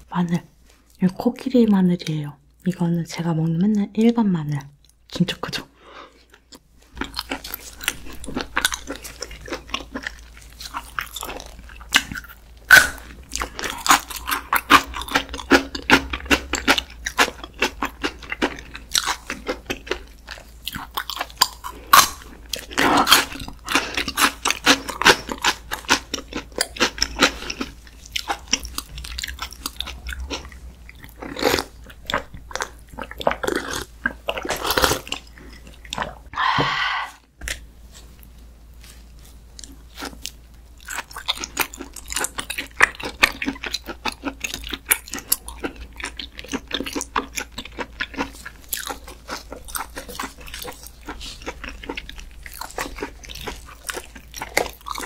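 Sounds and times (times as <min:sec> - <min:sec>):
crunching and chewing garlic: 0:04.5 - 0:36.3, 0:37.4 - 0:55.0.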